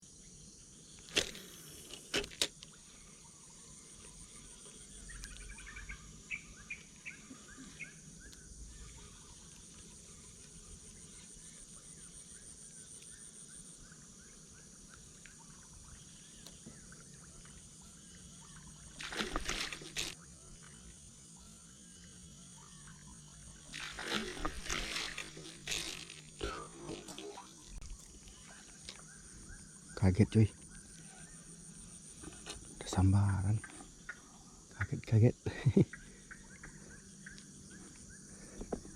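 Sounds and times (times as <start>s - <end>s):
high insect drone: 0.0s - 38.9s
repeated chirps of birds or frogs: 0.0s - 38.9s.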